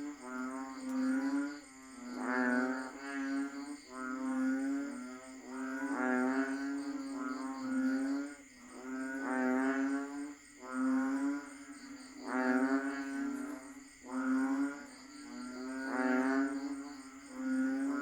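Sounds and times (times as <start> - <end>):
frogs droning calls: 0.0 - 18.0.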